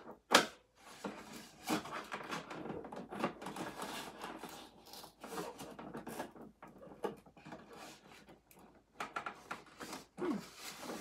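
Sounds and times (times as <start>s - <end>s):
plastic and cardboard scraping: 0.8s - 11.0s.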